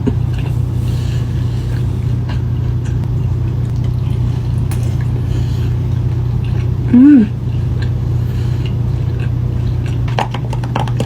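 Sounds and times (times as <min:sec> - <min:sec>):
car cabin drone: 0:00.0 - 0:09.1
person chewing food: 0:00.0 - 0:11.0.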